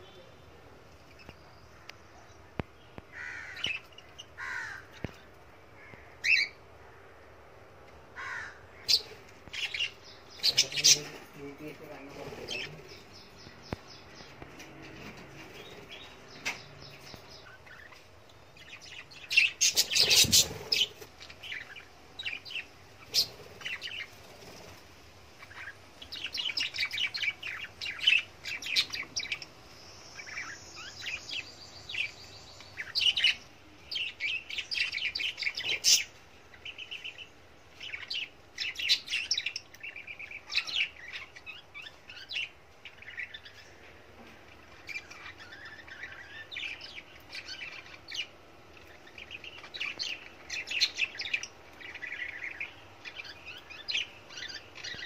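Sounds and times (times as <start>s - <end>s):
budgerigars chirping: 1.1s - 6.7s, 8.2s - 24.8s, 25.4s - 55.0s.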